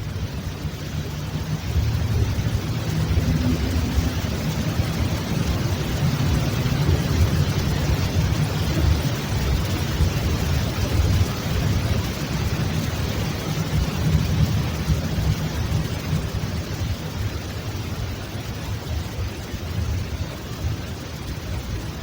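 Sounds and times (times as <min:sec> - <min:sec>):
wavering low rumble: 0:00.0 - 0:22.0.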